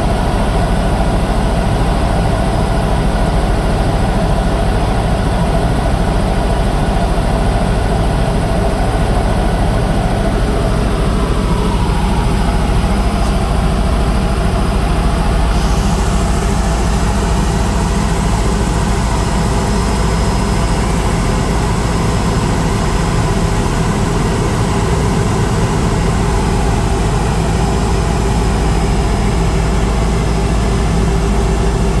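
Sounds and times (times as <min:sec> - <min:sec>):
helicopter engine and rotor: 0:00.0 - 0:32.0.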